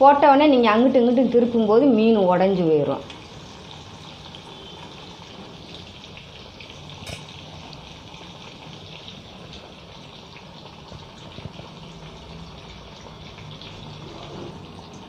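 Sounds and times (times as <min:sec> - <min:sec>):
fish sizzling in hot oil: 0:00.1 - 0:15.0.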